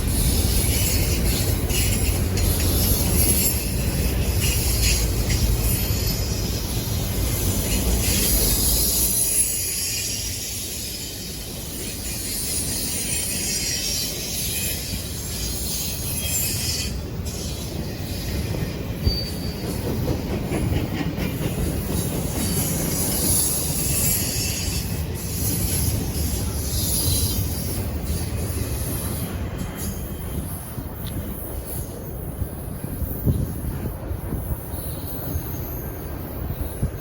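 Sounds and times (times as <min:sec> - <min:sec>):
train cars rumbling on rails: 0:00.0 - 0:37.0.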